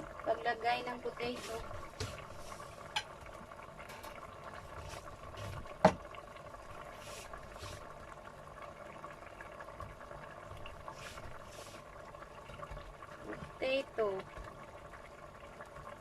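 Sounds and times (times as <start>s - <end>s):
stew bubbling in a pot: 0.0s - 16.0s.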